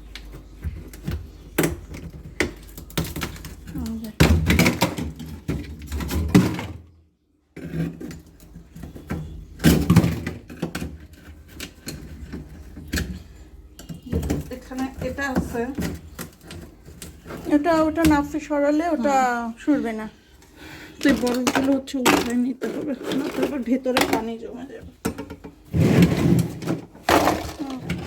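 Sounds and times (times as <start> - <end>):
ice knocking in freezer: 0.3 - 6.8, 7.6 - 19.2, 21.0 - 28.0.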